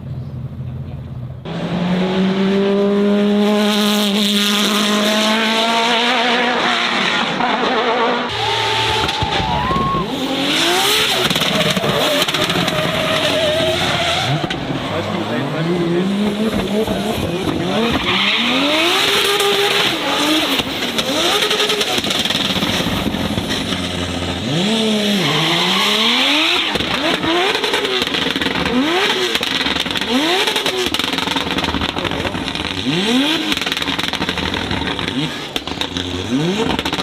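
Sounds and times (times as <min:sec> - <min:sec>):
race car engine accelerating: 0:01.4 - 0:37.0.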